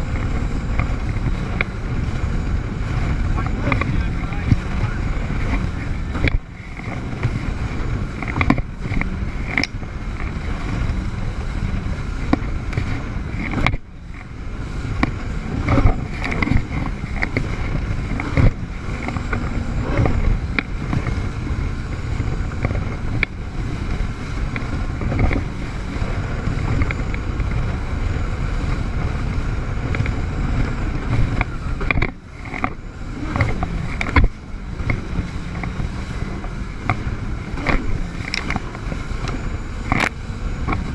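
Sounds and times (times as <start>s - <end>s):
jet ski engine: 0.0s - 40.9s
water rushing: 0.0s - 40.9s.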